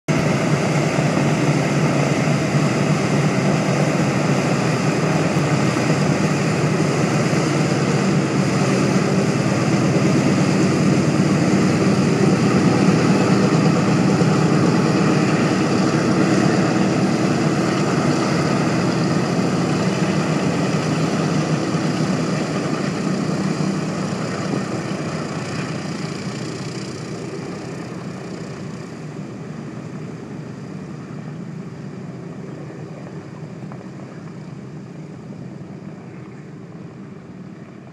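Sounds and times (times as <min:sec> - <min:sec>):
propeller aircraft engines running: 0:00.0 - 0:37.9.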